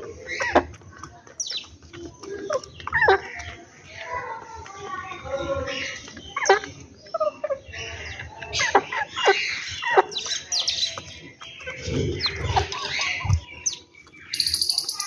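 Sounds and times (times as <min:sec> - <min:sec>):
birds chirping: 0:00.0 - 0:15.0
chickens clucking: 0:00.0 - 0:15.0.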